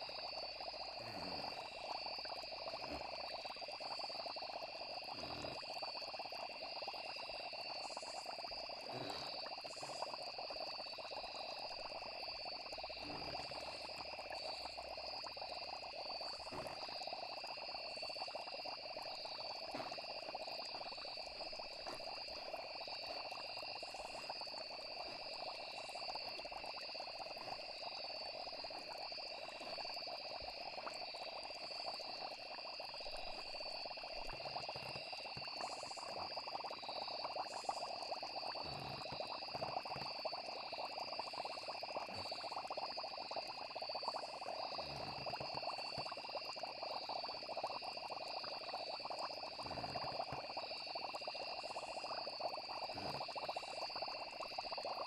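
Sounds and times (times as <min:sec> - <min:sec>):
frogs calling: 0:00.0 - 0:55.0
trilling insects: 0:00.0 - 0:55.0.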